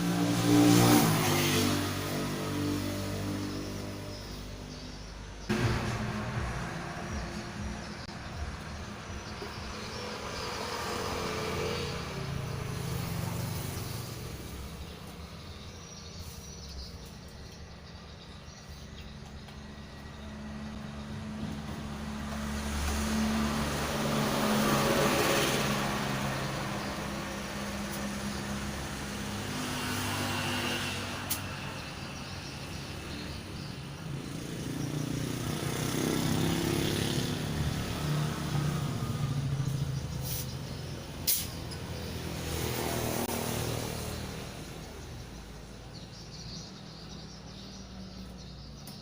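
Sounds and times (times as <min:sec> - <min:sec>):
vehicles passing on road: 0:00.0 - 0:49.0.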